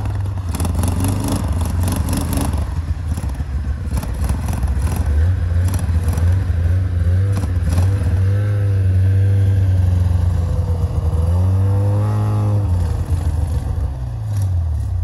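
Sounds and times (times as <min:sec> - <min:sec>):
snowmobile engine droning: 0:00.0 - 0:15.0.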